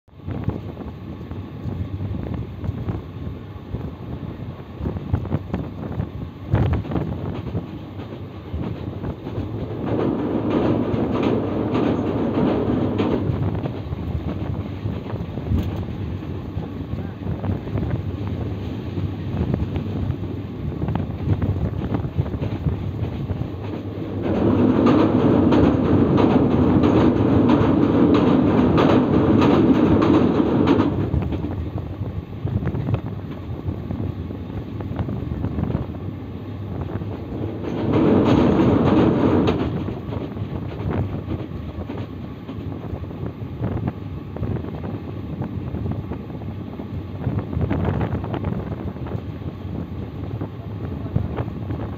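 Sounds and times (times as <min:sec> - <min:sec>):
train wheels rumbling on rail: 0:00.1 - 0:51.9.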